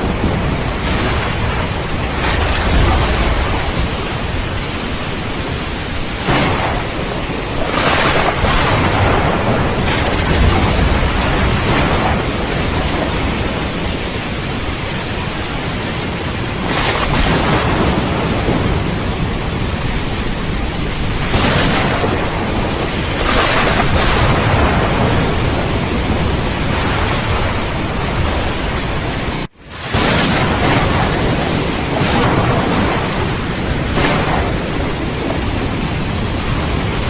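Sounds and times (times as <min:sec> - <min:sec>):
heavy rain: 0:00.0 - 0:37.0
thunder rumbling: 0:00.0 - 0:37.0.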